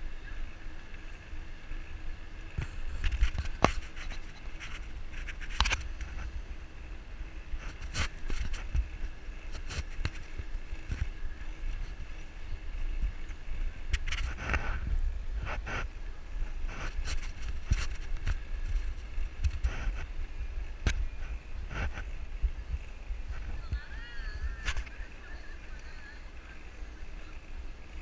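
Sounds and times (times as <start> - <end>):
bicycle rattling: 0.0 - 28.0
tyres on asphalt: 0.0 - 28.0
wind on microphone: 1.4 - 28.0.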